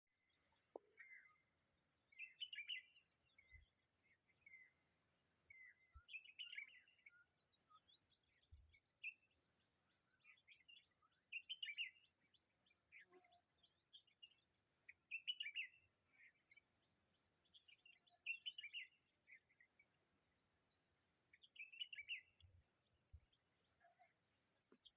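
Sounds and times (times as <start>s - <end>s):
faint bird chirping: 0.1s - 24.9s.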